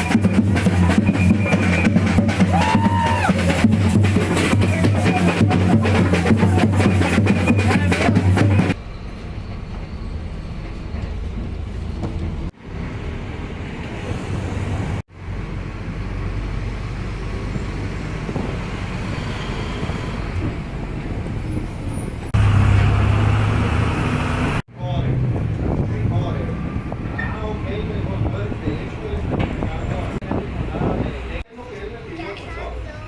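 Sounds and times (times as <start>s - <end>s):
low rumble of traffic: 0.0s - 33.0s.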